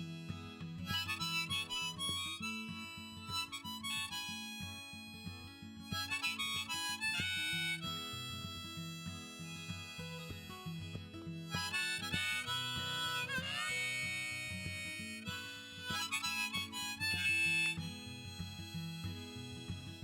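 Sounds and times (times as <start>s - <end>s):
guitar accompaniment: 0.0s - 20.0s
harmonica solo: 0.0s - 20.0s.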